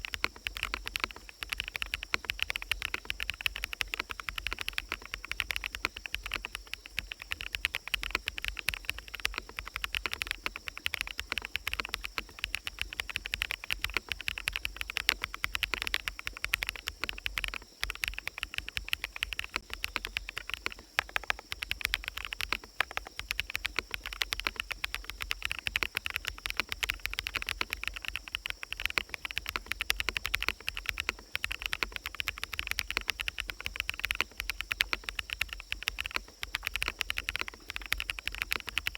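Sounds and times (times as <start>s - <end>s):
fast typing on mechanical keyboard: 0.0s - 38.9s
forest ambience: 0.0s - 38.9s.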